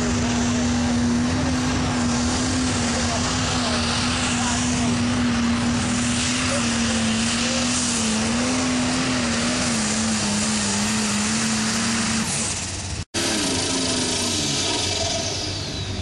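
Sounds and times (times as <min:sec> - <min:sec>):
tractor engine running under load: 0:00.0 - 0:16.0.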